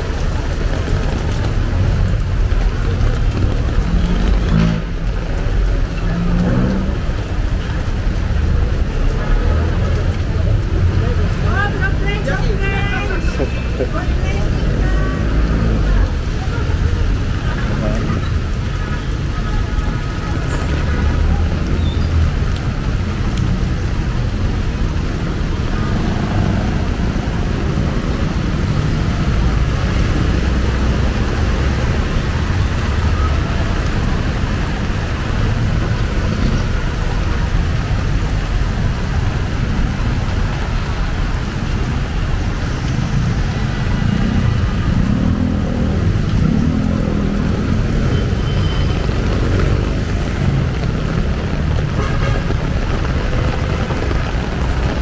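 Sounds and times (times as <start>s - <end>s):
heavy rain hiss: 0.0s - 55.0s
vehicles passing: 0.0s - 55.0s.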